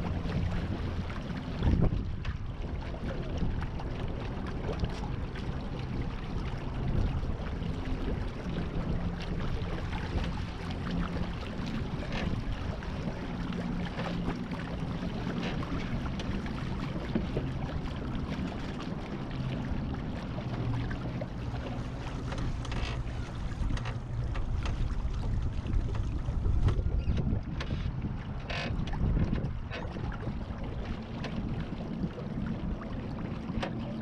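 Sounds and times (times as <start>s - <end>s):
water washing past hull: 0.0s - 34.0s
wind rumbling on microphone: 0.0s - 34.0s.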